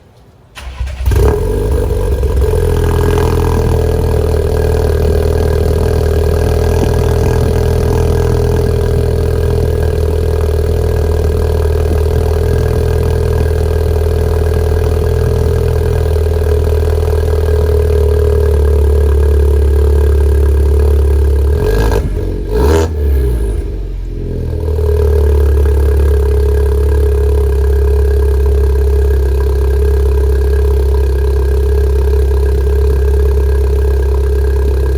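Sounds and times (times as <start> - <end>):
car engine starting and idling: 0.4 - 34.9.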